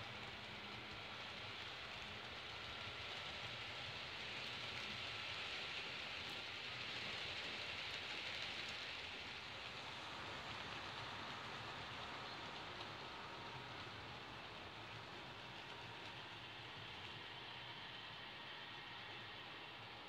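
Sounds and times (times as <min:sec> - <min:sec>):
model trains rolling on track: 0:00.0 - 0:20.0.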